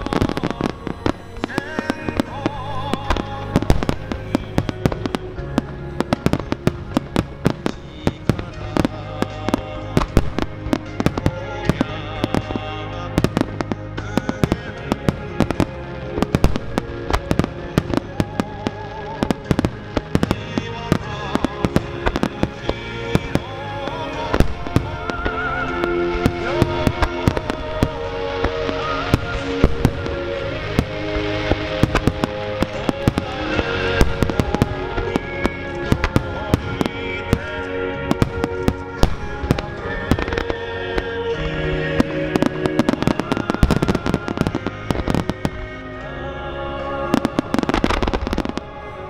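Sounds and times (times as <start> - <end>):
fireworks bursting with sharp bangs: 0.0 - 49.0
music: 0.0 - 49.0.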